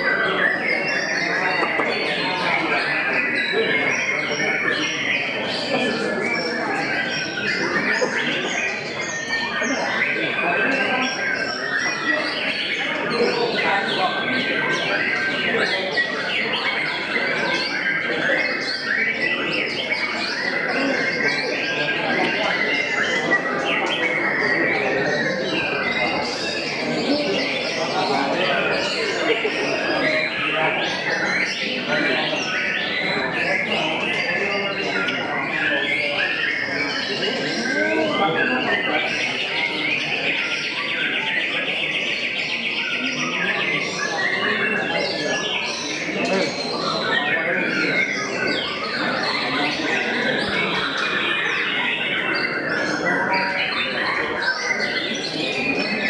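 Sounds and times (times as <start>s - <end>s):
bird singing: 0.0s - 56.0s
chorus of songbirds: 0.0s - 56.0s.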